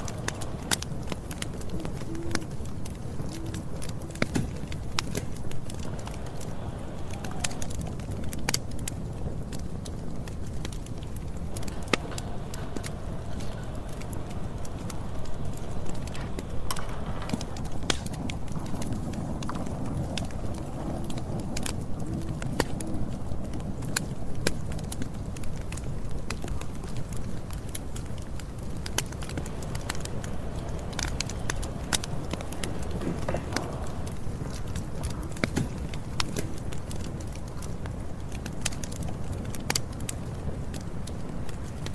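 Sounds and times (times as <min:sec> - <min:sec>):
campfire flames rumbling: 0:00.0 - 0:41.9
wood crackling and popping: 0:00.0 - 0:41.9.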